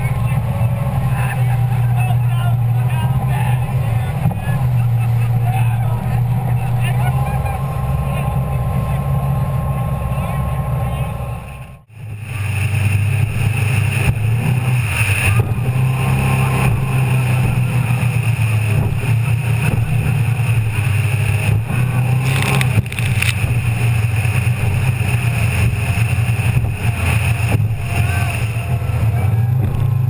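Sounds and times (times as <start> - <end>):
powerboat engine running: 0.0 - 30.0
rush of wind and water: 0.0 - 30.0.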